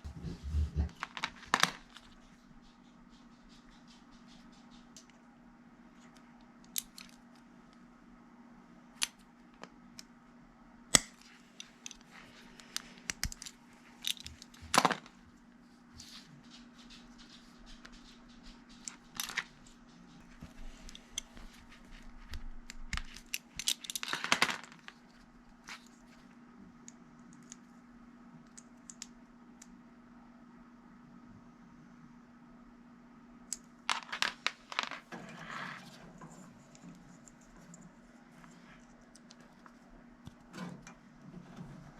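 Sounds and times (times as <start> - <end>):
steady low hum: 0.0 - 24.0, 24.8 - 41.9.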